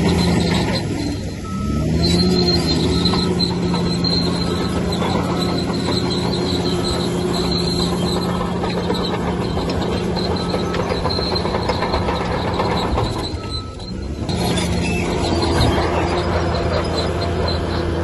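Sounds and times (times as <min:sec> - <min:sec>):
bulldozer diesel engine running: 0:00.0 - 0:18.0
steel crawler tracks squealing: 0:00.0 - 0:18.0.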